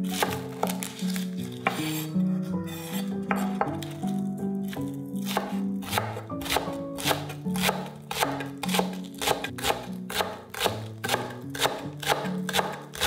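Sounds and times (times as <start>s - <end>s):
knife chopping on wooden board: 0.0s - 4.0s, 4.6s - 13.0s
background music: 0.0s - 13.0s.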